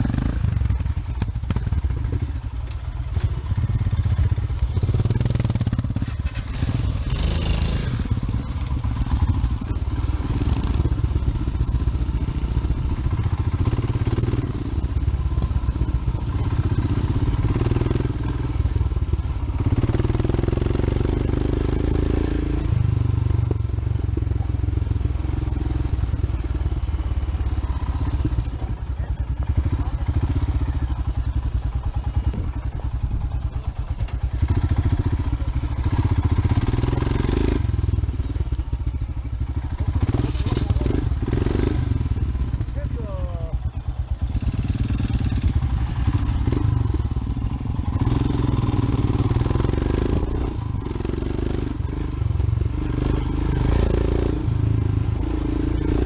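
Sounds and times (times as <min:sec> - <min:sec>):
motorcycle engine running: 0:00.0 - 0:56.0
wind and ground noise: 0:00.0 - 0:56.0.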